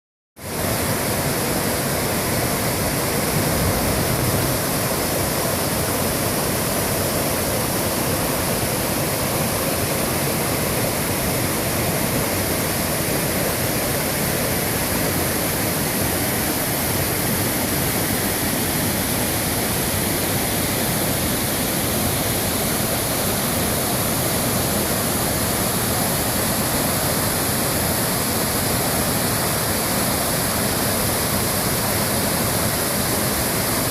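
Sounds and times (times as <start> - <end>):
rushing water: 0.4 - 33.9.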